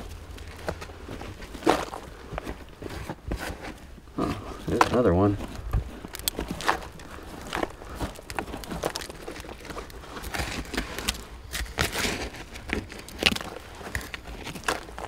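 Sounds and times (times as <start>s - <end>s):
hand scraping through soil: 0.0s - 15.0s.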